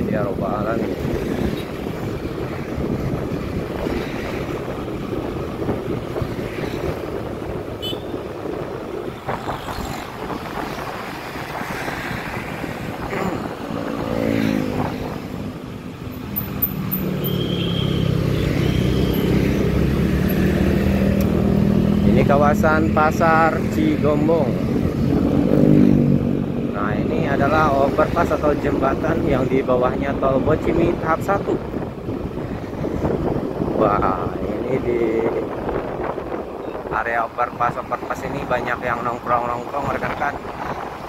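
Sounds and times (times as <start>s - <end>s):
wind and road noise: 0.0s - 41.0s.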